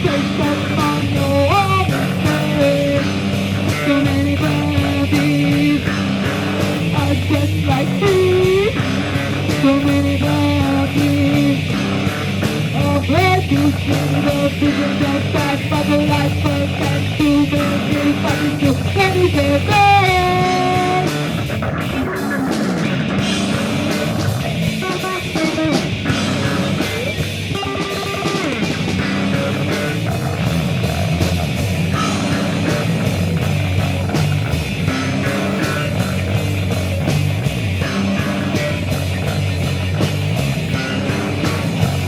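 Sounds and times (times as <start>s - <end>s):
drum kit: 0.0s - 42.0s
electric guitar: 0.0s - 42.0s.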